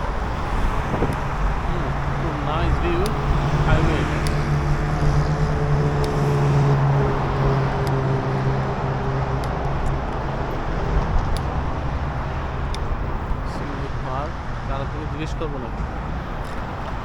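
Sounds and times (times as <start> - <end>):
traffic noise: 0.0 - 17.0
vehicle engine running close by: 0.0 - 17.0.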